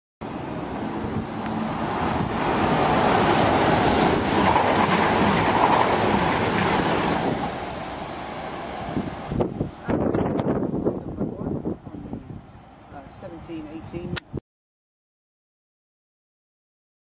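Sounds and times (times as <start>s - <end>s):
diesel train passing close: 0.2s - 14.0s.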